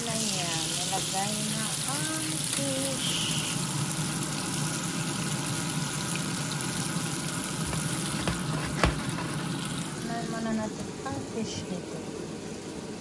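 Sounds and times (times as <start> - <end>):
butter sizzling in a frying pan: 0.0 - 10.7.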